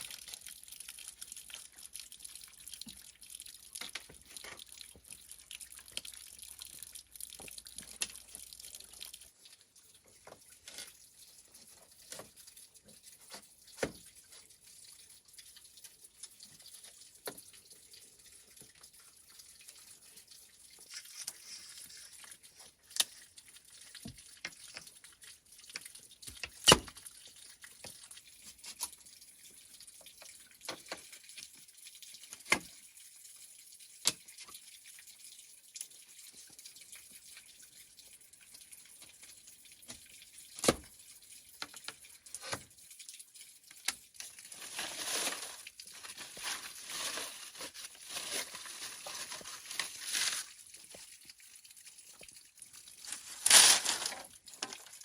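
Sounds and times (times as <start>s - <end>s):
water dripping in sink: 0.0s - 55.0s.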